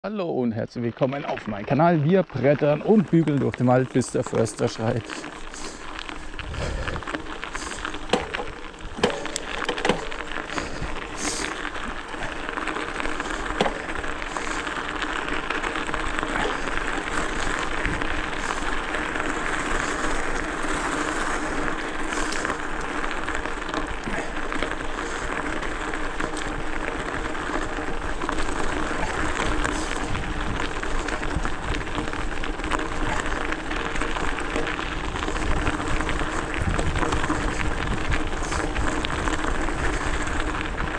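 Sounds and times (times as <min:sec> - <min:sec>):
bike tyres rolling over dirt: 0:00.0 - 0:40.9
bike knocking over bumps: 0:04.0 - 0:40.9.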